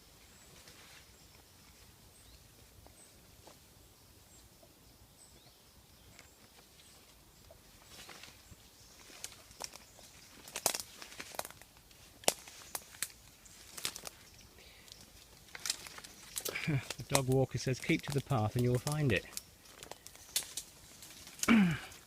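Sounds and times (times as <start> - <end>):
footsteps on twigs and leaves: 0.0 - 1.9, 2.6 - 3.7, 6.0 - 22.0.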